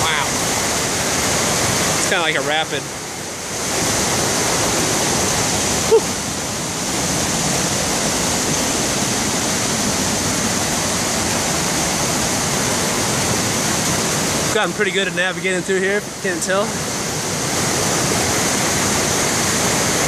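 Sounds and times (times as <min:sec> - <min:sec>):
stream and waterfall rushing: 0:00.0 - 0:20.0.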